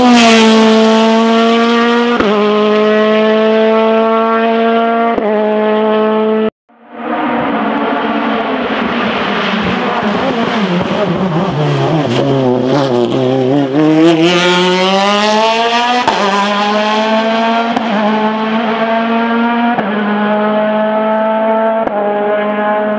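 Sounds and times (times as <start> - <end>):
race car engine: 0.0 - 22.9.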